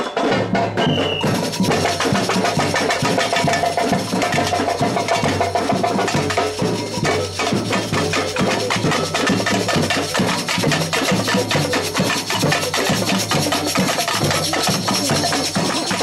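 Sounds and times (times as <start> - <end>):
samba percussion band: 0.0 - 16.0.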